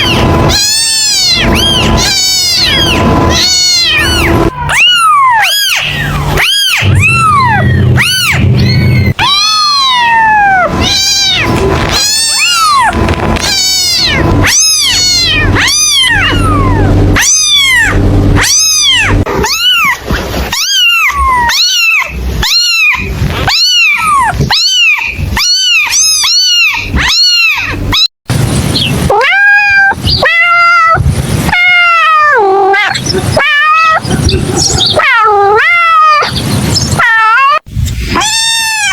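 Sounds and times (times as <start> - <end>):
kitten meowing: 0.0 - 28.1, 29.1 - 38.9.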